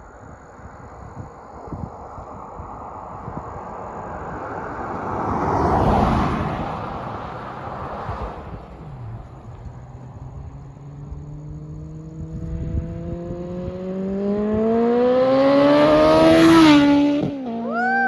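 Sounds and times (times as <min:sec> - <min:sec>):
motorcycle engine accelerating: 0:00.7 - 0:17.7.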